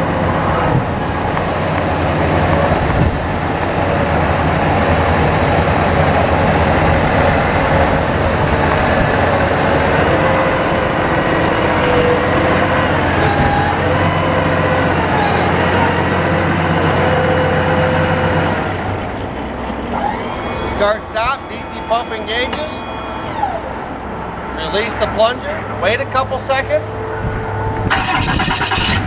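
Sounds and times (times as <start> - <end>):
hydraulic whine: 0.0 - 25.1
diesel engine droning: 0.0 - 28.7.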